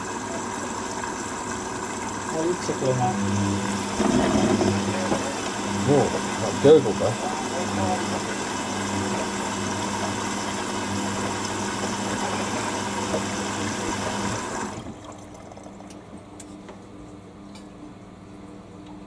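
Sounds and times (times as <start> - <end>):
water rushing into washer: 0.0 - 16.1
steady valve hum: 0.2 - 19.0.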